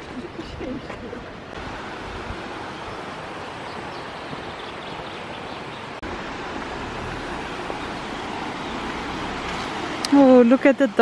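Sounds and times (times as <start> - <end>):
mountain stream rushing: 1.1 - 11.0.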